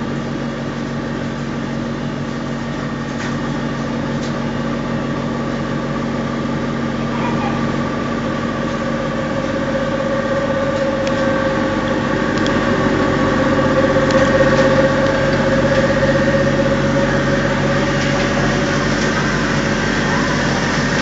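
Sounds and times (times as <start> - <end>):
machines droning: 0.0 - 21.0.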